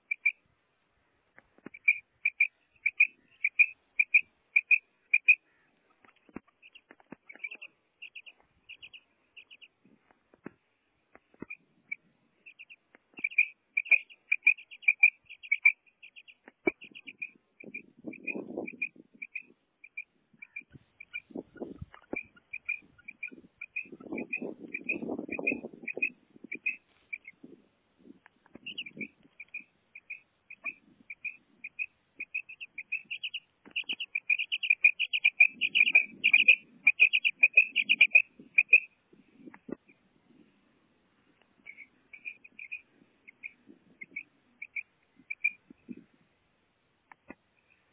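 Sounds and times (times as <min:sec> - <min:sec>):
quail chirping: 0:00.0 - 0:00.4, 0:01.6 - 0:09.8, 0:11.2 - 0:40.0, 0:41.6 - 0:46.0
low background noise: 0:00.0 - 0:47.9.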